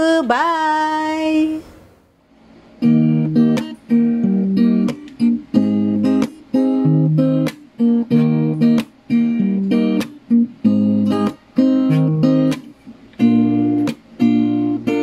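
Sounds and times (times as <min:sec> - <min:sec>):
acoustic guitar strumming chords: 0:02.8 - 0:15.0.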